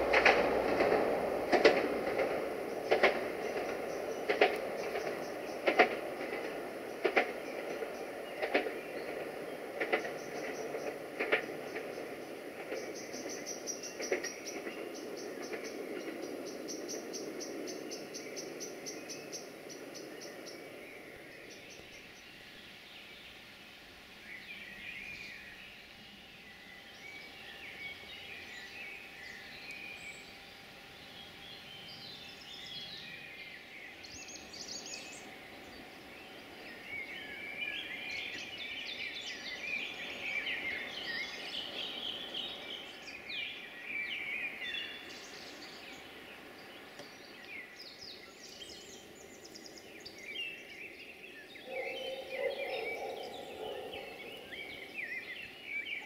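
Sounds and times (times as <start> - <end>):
songbirds singing: 0.0 - 56.0
train running on track: 0.0 - 56.0.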